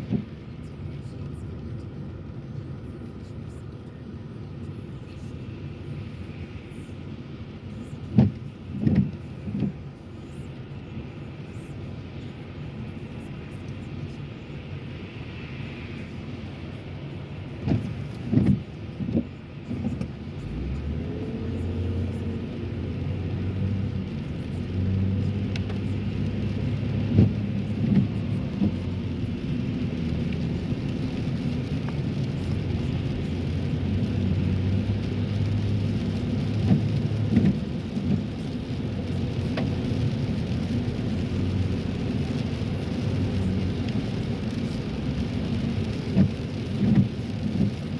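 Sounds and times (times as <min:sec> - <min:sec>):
engine and tyre rumble: 0:00.0 - 0:47.9.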